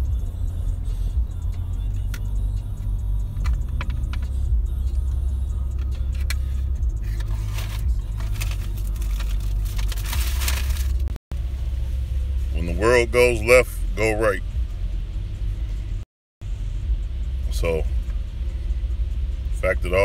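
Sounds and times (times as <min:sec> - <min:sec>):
road rumble inside car: 0:00.0 - 0:20.0.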